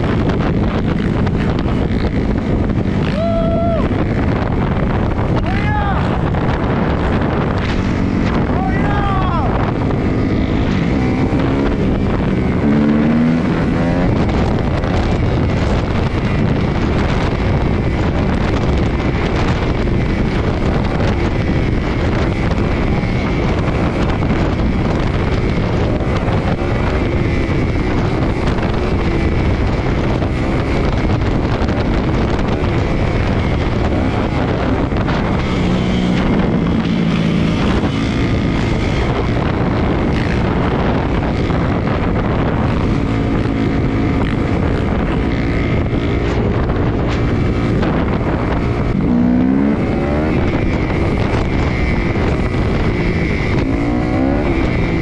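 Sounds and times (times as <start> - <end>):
dirt bike engine revving: 0.0 - 55.0
wind noise on microphone: 0.0 - 55.0.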